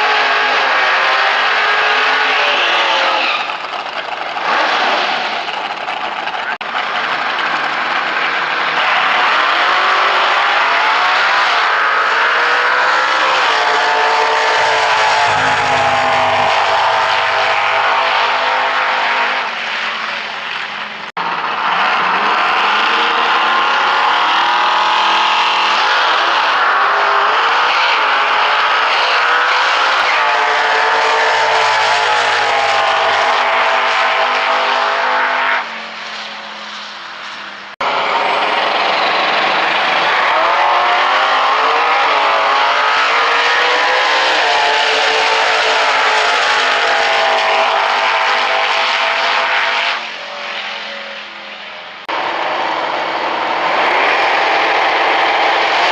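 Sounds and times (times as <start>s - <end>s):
drag car engine revving: 0.0s - 36.6s, 37.2s - 55.9s.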